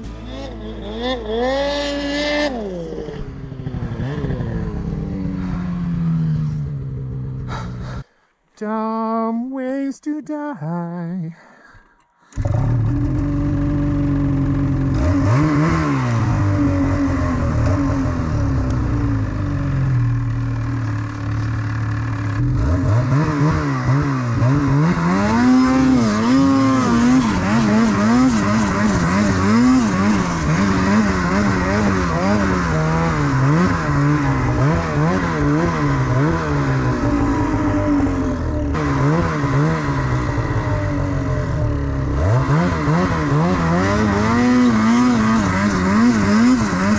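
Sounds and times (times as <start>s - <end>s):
snowmobile engine revving: 0.0s - 8.0s, 12.3s - 46.9s.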